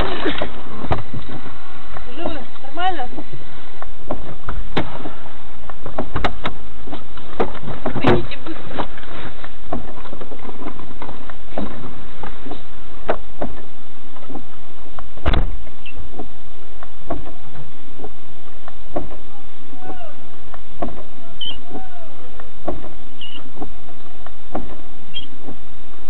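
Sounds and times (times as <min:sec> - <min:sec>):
knocks and rattles in wrecked car: 0:00.0 - 0:19.3, 0:20.5 - 0:21.2, 0:22.3 - 0:26.0.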